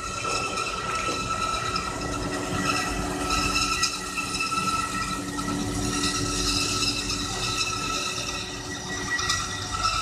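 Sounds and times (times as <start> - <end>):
bandsaw running: 0.0 - 10.0.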